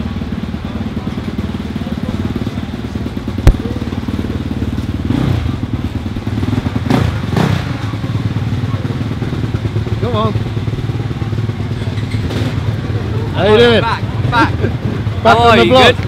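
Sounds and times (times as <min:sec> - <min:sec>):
motocross bike engine idling: 0:00.0 - 0:16.0.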